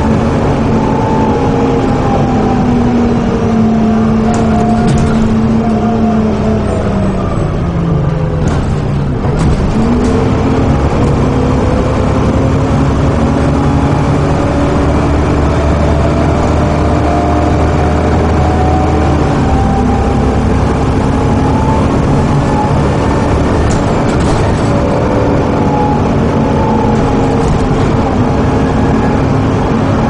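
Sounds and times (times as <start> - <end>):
bus engine accelerating: 0.0 - 30.0.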